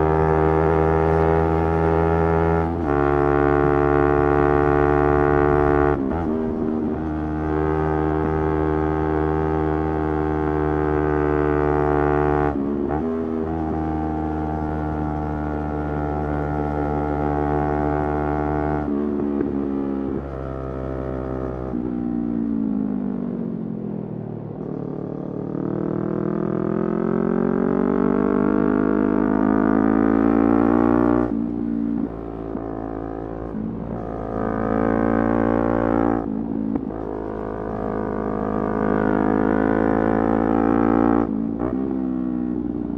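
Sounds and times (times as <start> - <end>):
motorcycle engine droning: 0.0 - 42.9.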